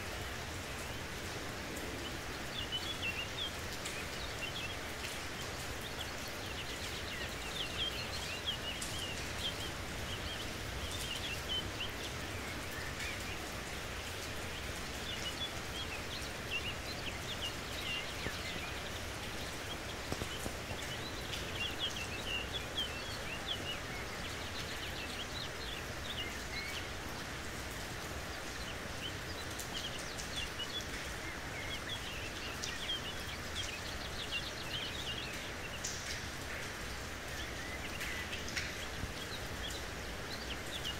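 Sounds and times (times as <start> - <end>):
small birds chirping: 0.0 - 40.9
steady rain falling: 0.0 - 40.9.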